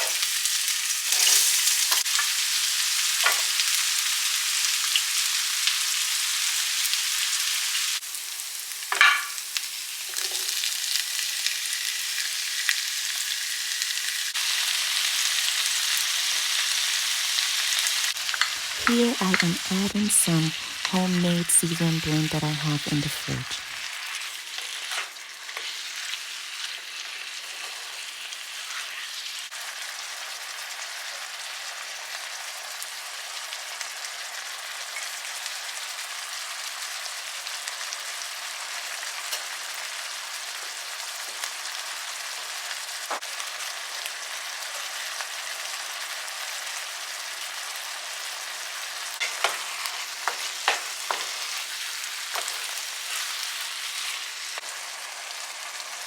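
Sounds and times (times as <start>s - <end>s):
onions sizzling in oil: 0.0s - 19.4s, 23.6s - 56.0s.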